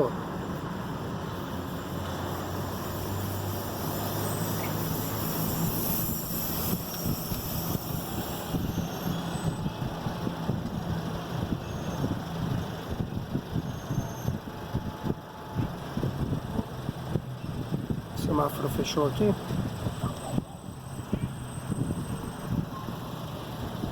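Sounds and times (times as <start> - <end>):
car tyre and engine noise: 0.0 - 23.9.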